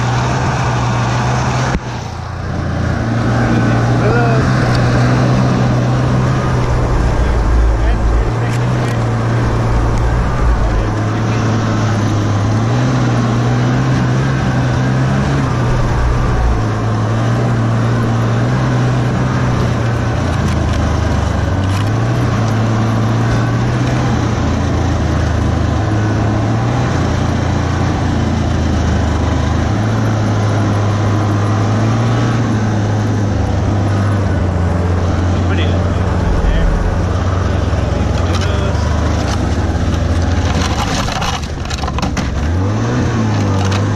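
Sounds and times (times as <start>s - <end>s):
track and wind rushing: 0.0s - 28.6s, 29.7s - 43.9s
snowmobile engine revving: 0.0s - 43.9s.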